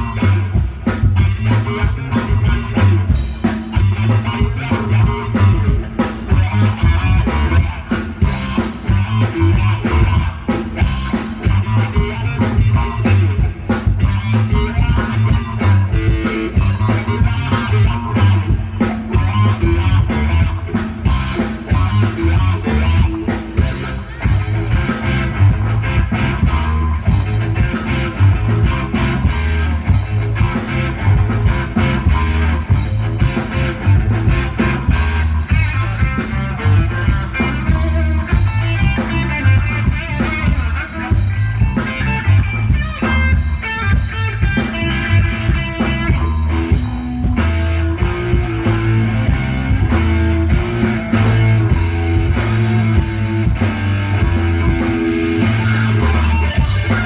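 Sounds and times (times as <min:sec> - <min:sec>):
high guitar notes run: 0:00.0 - 0:57.0
live rock band playing: 0:00.0 - 0:57.0.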